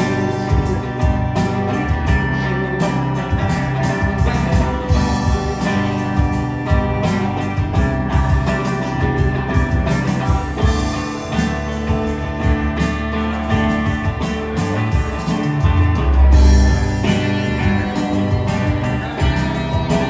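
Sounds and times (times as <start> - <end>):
rock band music: 0.0 - 20.0.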